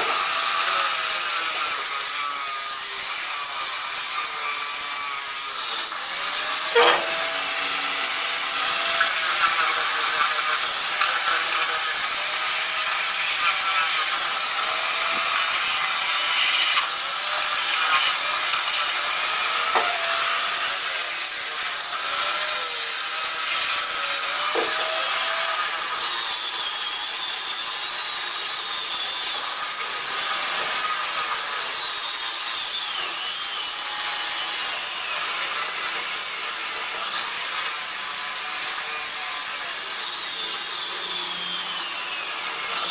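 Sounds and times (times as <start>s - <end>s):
power tool sanding wood: 0.0s - 42.9s.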